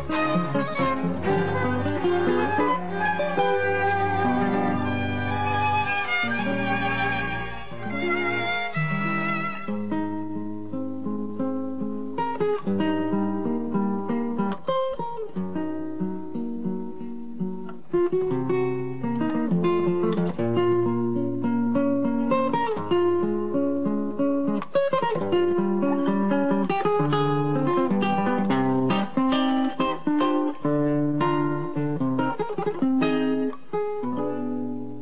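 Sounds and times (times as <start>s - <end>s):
classical guitar playing: 0.0s - 35.0s.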